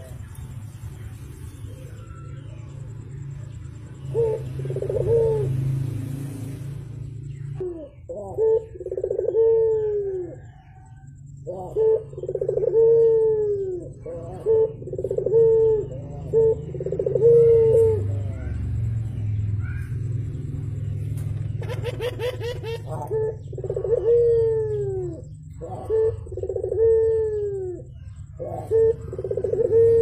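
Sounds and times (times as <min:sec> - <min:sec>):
dove cooing: 0:00.0 - 0:06.5, 0:07.5 - 0:30.0
steady low hum: 0:00.0 - 0:30.0.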